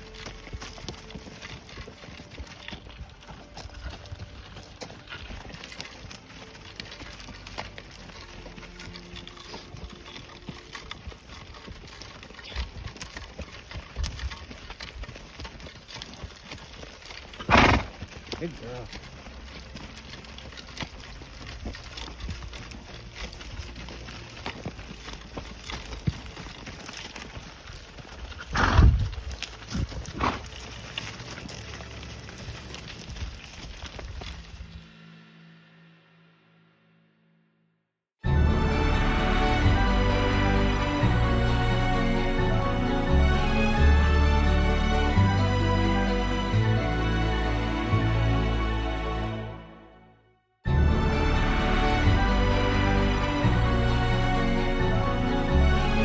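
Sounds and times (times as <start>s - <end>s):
horse hoofbeats: 0.0s - 35.0s, 38.2s - 49.6s, 50.6s - 56.0s.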